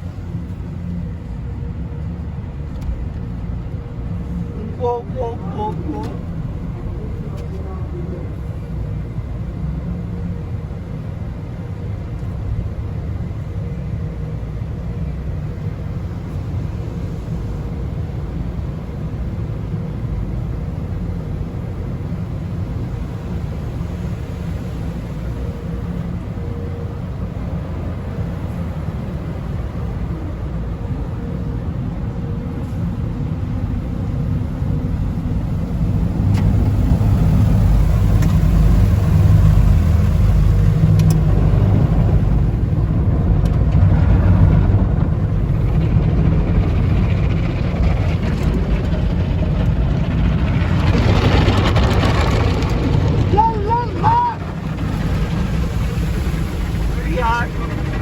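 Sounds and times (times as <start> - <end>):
car wash machinery rumbling: 0.0 - 58.0.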